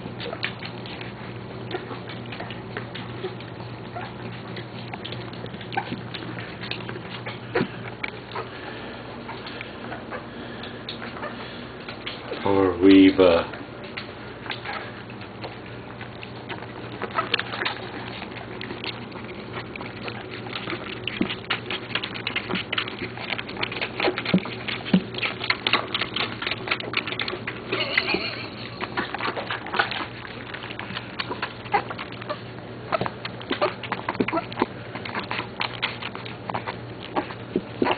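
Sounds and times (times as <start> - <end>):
puppies suckling wet clicks: 0.0 - 37.9.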